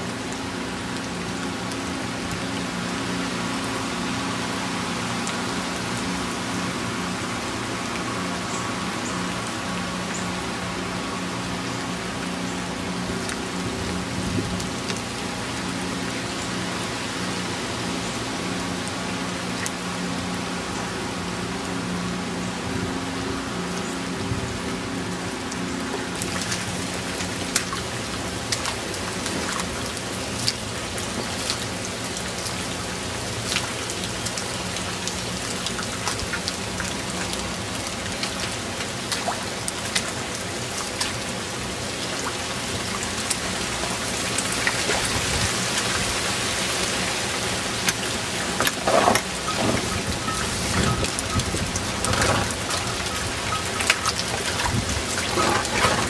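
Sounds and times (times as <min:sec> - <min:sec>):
heavy rain falling: 0:00.0 - 0:56.0
raindrops pattering close: 0:00.0 - 0:56.0.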